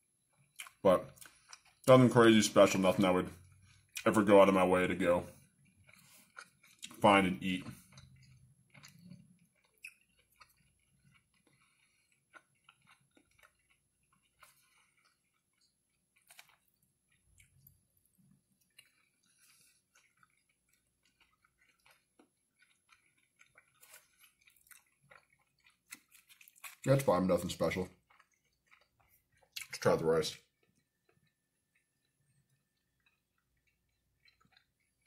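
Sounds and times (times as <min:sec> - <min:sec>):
person chewing wetly: 0:00.2 - 0:35.0.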